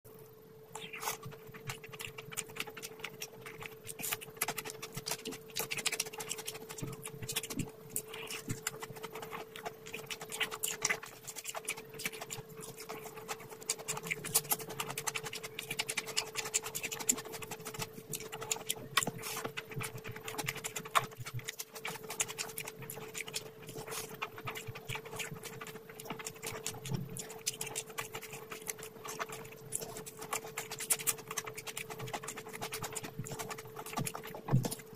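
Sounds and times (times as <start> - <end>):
faint steady hum: 0.1 - 34.9
wet chewing and lip-smacking: 0.7 - 34.9.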